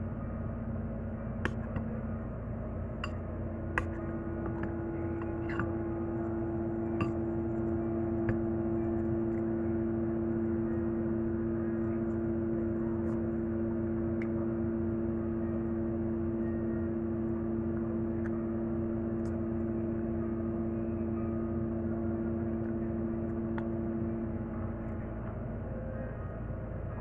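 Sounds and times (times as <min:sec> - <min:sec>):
air conditioner humming: 0:00.0 - 0:27.0.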